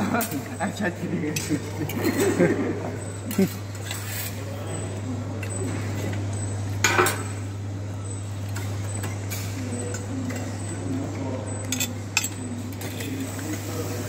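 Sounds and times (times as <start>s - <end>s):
faint background chatter: 0.0s - 14.0s
steady low hum: 0.0s - 14.0s.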